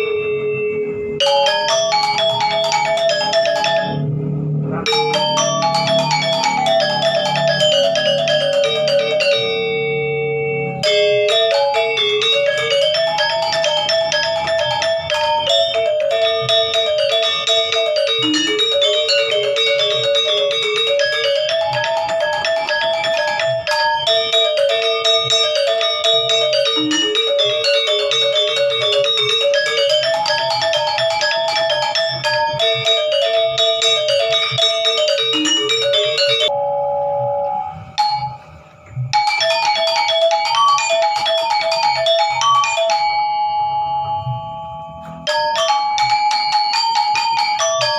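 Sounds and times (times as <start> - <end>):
gamelan music on metal keys: 0.0 - 47.9.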